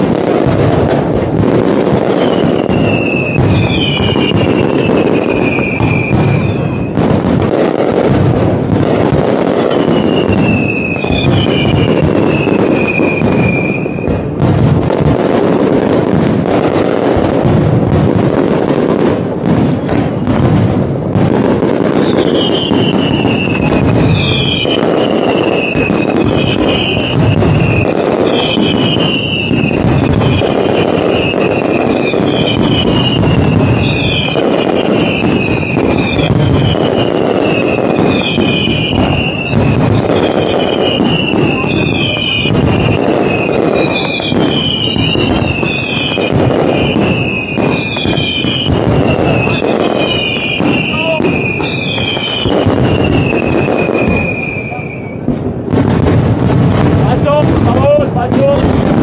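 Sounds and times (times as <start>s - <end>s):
fireworks crackling and banging: 0.0s - 59.0s
whistling fireworks: 0.0s - 59.0s.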